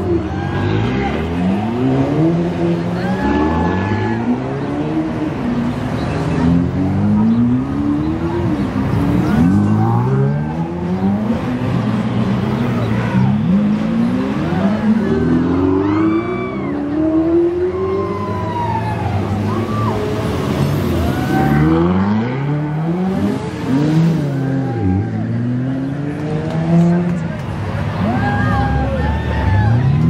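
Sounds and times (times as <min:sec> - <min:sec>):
sports car engines revving past: 0:00.0 - 0:30.0.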